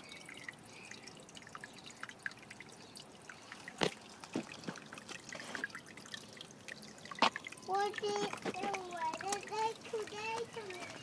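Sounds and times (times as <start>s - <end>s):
small water plinks: 0.0s - 11.0s
water trickling and dripping: 0.0s - 11.0s.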